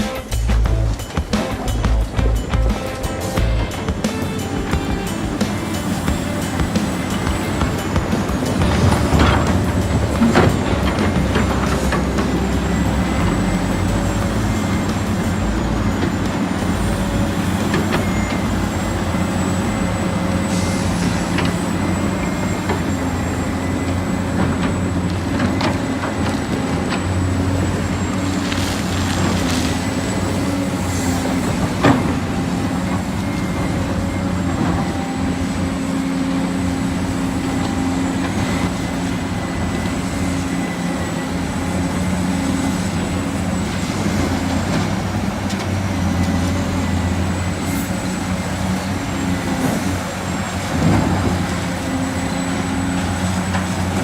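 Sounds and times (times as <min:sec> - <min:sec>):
model truck engine drone: 0:00.0 - 0:54.0.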